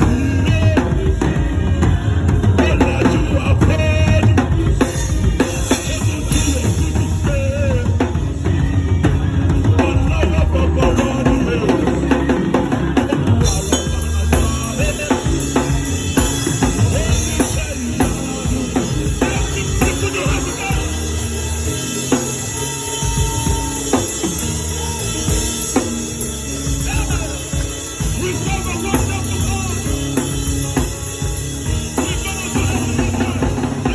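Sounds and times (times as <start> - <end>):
band playing: 0.0 - 33.9
drum kit playing: 0.0 - 33.9.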